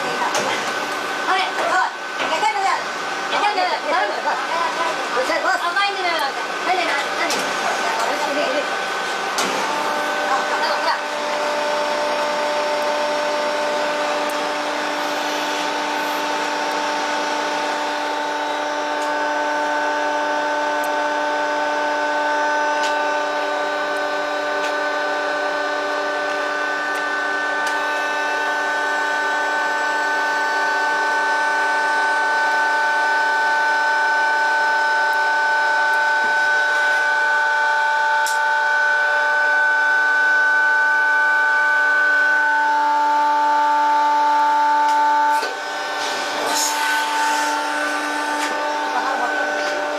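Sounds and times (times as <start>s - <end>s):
hydraulic press whine: 0.0s - 49.9s.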